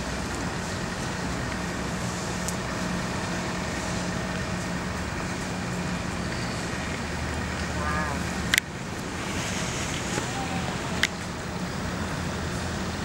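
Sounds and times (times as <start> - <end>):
road traffic hiss and rumble: 0.0 - 13.0.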